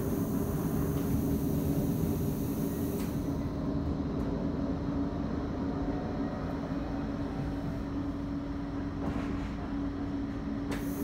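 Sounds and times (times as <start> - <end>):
constant hum: 0.0 - 11.0
tram interior rumble: 0.0 - 11.0.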